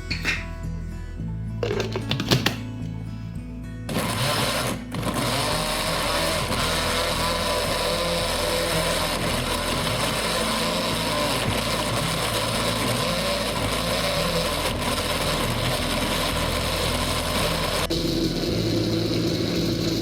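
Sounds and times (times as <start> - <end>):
electric blender motor running: 3.9 - 20.0.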